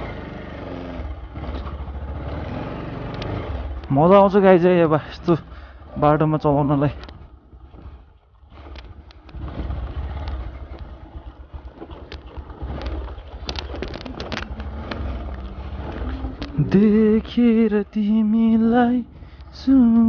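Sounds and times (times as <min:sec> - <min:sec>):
motorcycle engine: 0:00.0 - 0:20.0
bike rattling over stones: 0:02.9 - 0:20.0.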